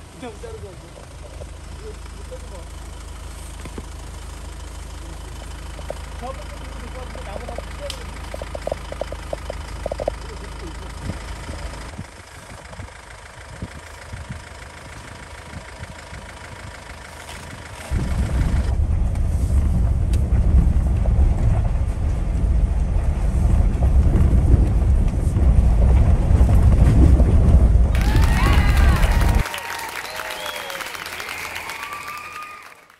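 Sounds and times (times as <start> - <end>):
engine and road rumble: 0.0 - 32.9.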